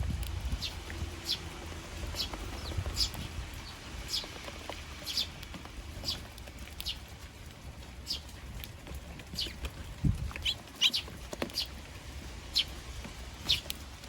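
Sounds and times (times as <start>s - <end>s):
sparrows chirping: 0.0s - 14.0s.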